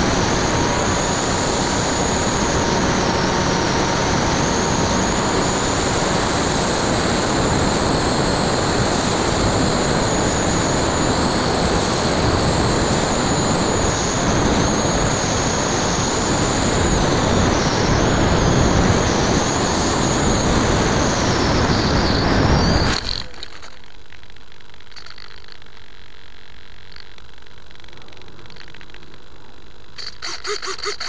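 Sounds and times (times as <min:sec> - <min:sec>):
electric motor whine: 0:00.0 - 0:23.9, 0:29.9 - 0:31.0
wind rushing over camera: 0:00.0 - 0:31.0.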